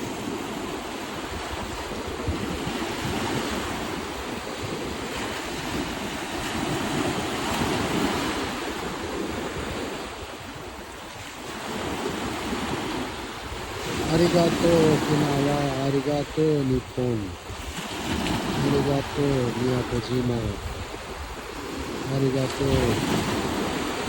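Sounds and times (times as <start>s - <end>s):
waves washing onto sandy beach: 0.0s - 24.0s
wind rumbling on microphone: 0.0s - 24.0s.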